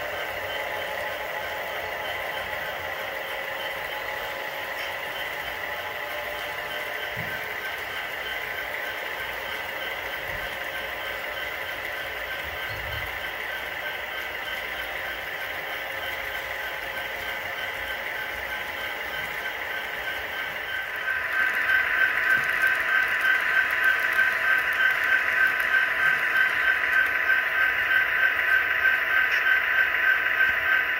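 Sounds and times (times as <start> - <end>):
model train cars rolling on track: 0.0 - 30.9.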